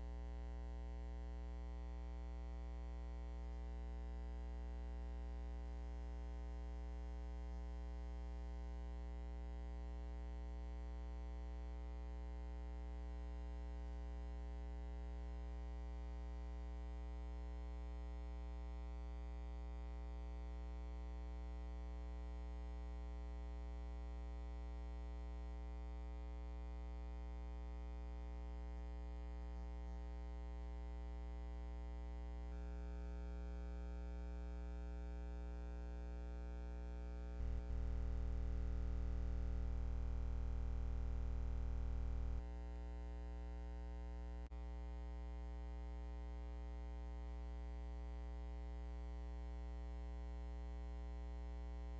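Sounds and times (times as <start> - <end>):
buzzy mains hum: 0.0 - 51.9.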